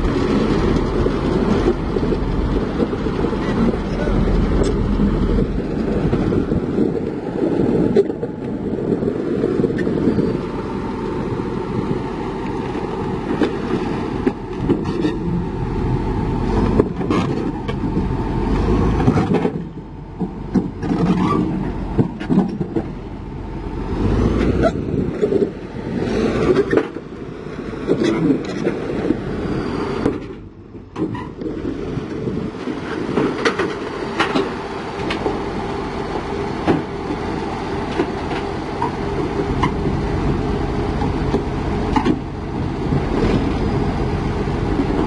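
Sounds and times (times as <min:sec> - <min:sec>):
diesel machinery running: 0:00.0 - 0:45.0.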